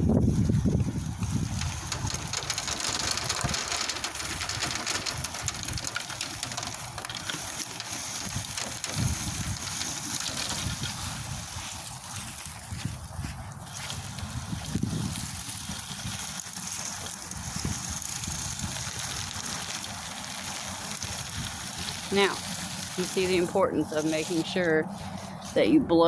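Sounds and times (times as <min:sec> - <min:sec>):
nut gatherer rolling over leaves: 0:00.0 - 0:26.0.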